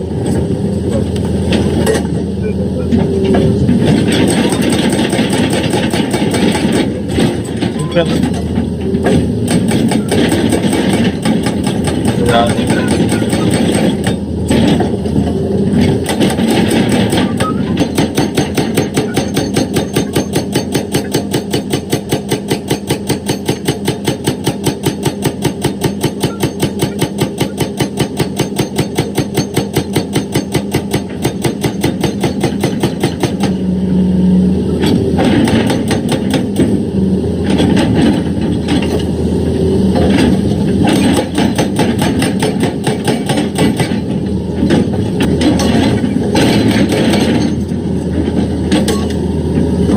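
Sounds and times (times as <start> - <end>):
excavator engine running: 0.0 - 49.9
hydraulic rock breaker hammering stone: 3.2 - 15.1, 15.7 - 33.7, 34.7 - 39.1, 39.9 - 49.9.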